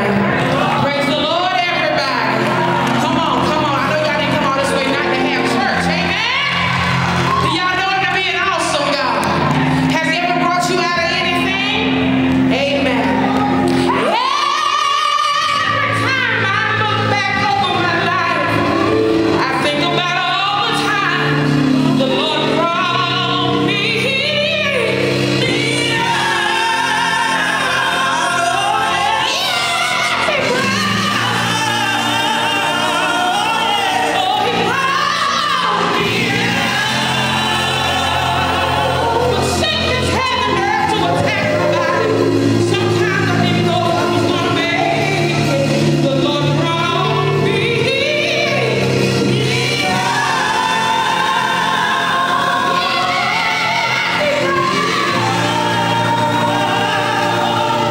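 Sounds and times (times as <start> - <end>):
women singing gospel: 0.0 - 57.9.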